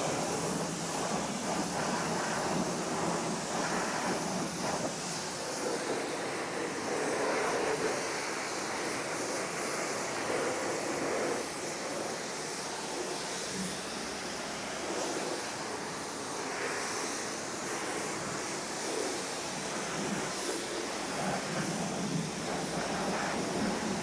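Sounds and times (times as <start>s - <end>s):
pressure washer spraying water: 0.0s - 24.0s.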